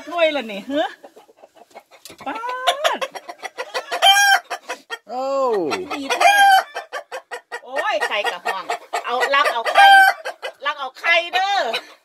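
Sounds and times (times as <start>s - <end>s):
chickens clucking and squawking: 0.0s - 12.0s.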